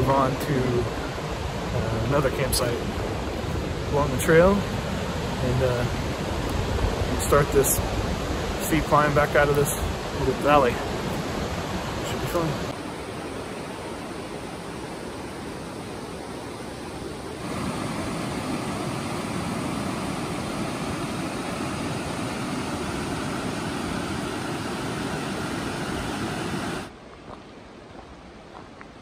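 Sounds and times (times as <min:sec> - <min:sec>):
rushing whitewater river: 0:00.0 - 0:27.0.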